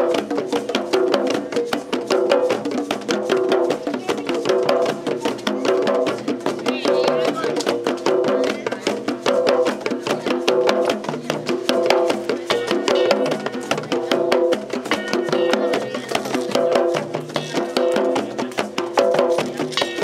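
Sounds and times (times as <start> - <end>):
hand drums playing fast rhythm: 0.0 - 20.0
hand percussion: 0.0 - 20.0.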